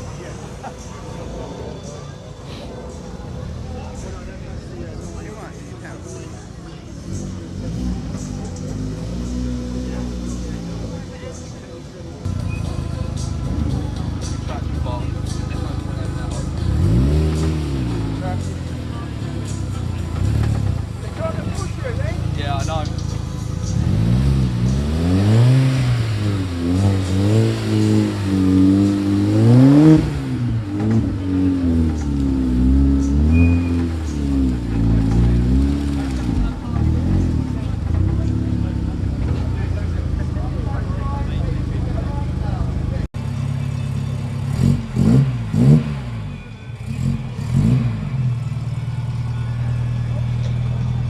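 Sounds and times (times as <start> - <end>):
car engine revving: 3.0 - 51.0.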